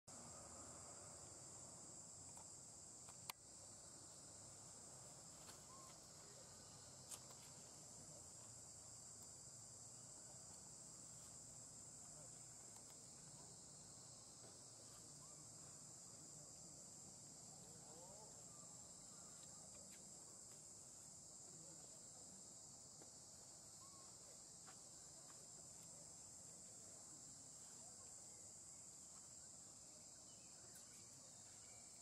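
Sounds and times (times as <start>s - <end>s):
high-pitched insect chorus: 0.1s - 32.0s.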